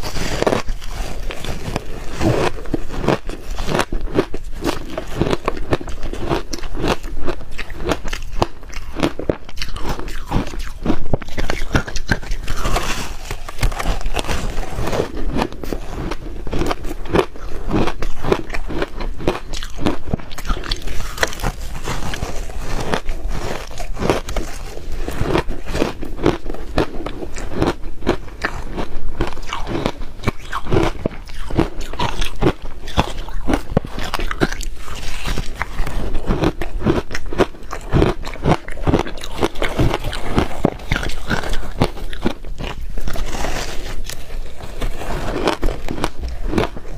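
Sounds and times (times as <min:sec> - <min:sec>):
chewing crushed ice: 0:00.0 - 0:46.9.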